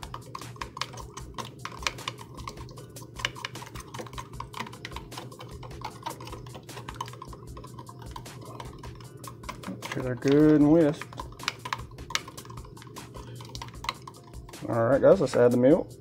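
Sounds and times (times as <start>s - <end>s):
eggs whisked in plastic tub: 0.0s - 16.0s.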